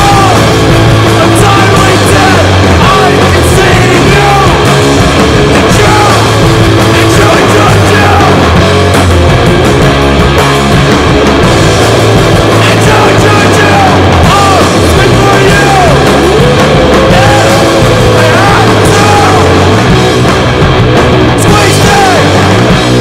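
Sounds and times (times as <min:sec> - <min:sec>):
punk rock band playing: 0:00.0 - 0:23.0.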